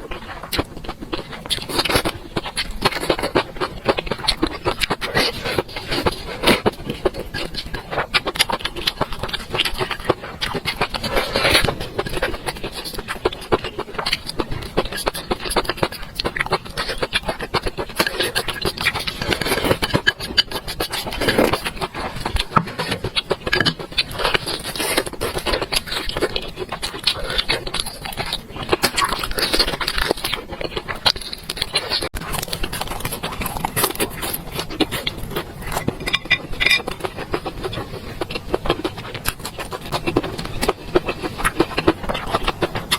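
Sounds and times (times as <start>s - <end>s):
chewing food: 0.0s - 42.9s
small clicks and scrapes: 0.0s - 42.9s.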